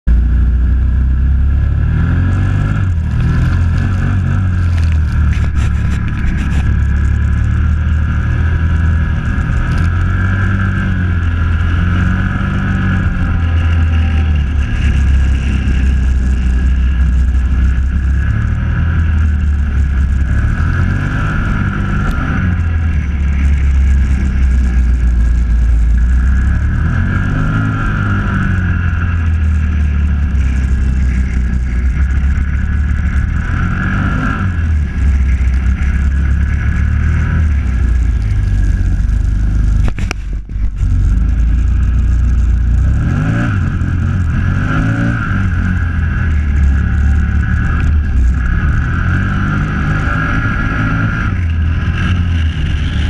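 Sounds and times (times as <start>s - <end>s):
quad bike engine revving: 0.1s - 53.0s.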